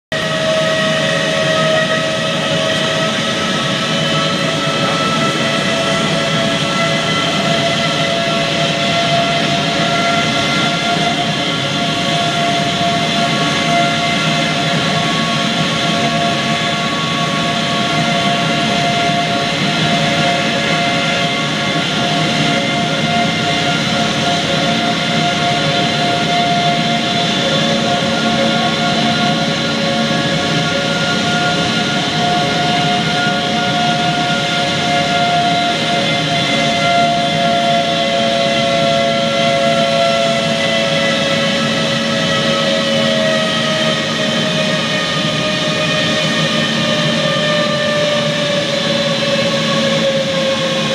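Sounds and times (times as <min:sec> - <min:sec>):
jet engine roaring with whine: 0:00.1 - 0:50.9.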